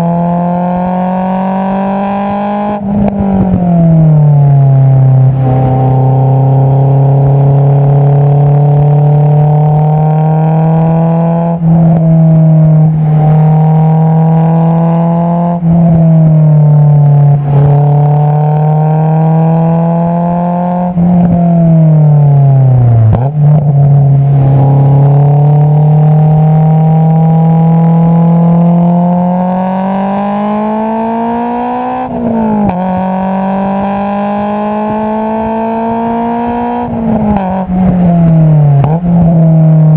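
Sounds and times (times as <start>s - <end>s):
car exhaust note: 0.0s - 39.9s.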